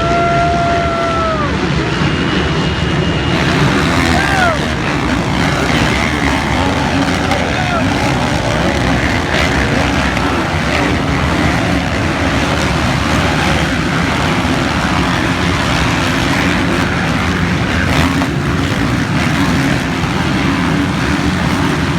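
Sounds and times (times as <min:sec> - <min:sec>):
dirt bike engines running: 0:00.0 - 0:21.9.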